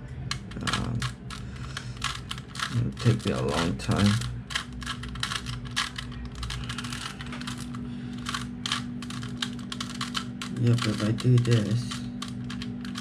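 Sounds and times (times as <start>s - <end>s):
plastic puzzle cube clicking: 0.3s - 13.0s.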